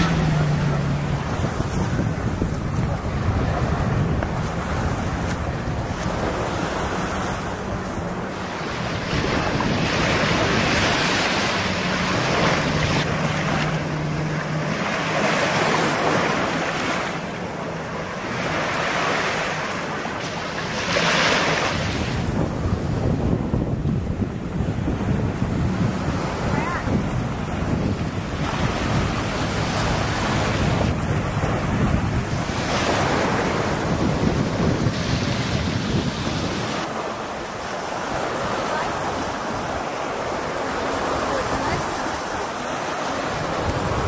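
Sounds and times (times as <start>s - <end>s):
jet ski engine drone: 0.0s - 44.0s
waves breaking on sandy beach: 0.0s - 44.0s
wind buffeting microphone: 0.0s - 44.0s.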